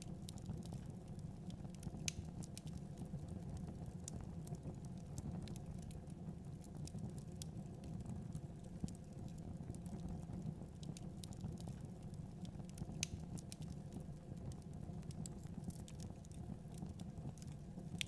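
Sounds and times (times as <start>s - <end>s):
fire crackling and popping: 0.0s - 18.0s
low rumble of flame: 0.0s - 18.0s.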